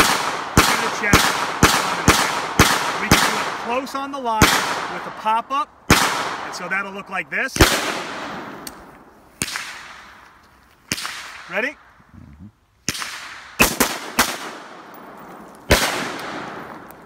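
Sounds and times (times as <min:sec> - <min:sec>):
rifle shots with echo: 0:00.0 - 0:10.2, 0:12.8 - 0:16.9.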